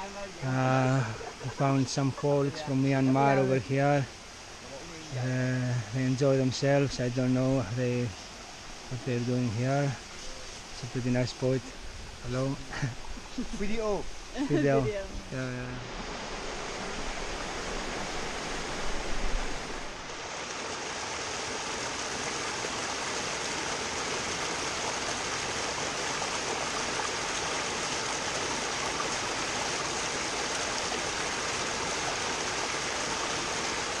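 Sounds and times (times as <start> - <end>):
water cascading into a pool: 0.0 - 34.0.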